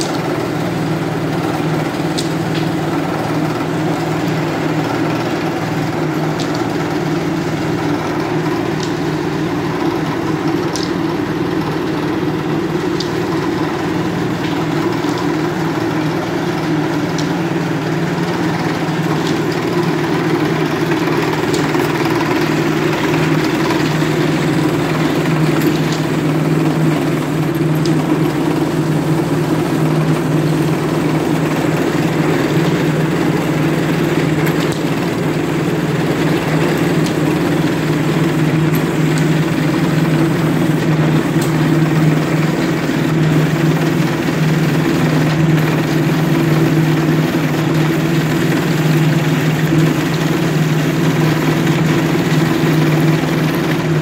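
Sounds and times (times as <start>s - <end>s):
machine humming: 0.0s - 54.0s.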